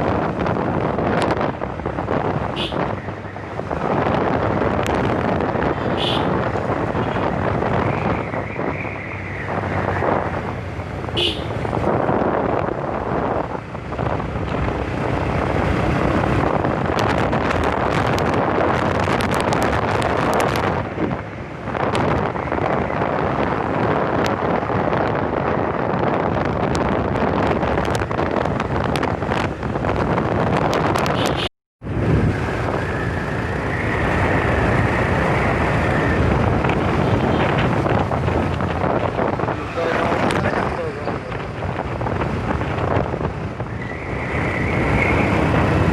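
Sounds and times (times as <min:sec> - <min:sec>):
road and traffic noise: 0:00.0 - 0:45.9
wind rushing over microphone: 0:00.0 - 0:45.9.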